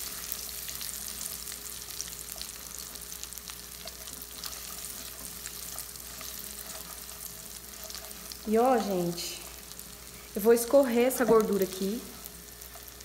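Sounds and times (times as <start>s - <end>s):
spatula stirring in a pan: 0.0s - 10.4s, 11.2s - 13.0s
bacon sizzling in a pan: 0.0s - 13.0s.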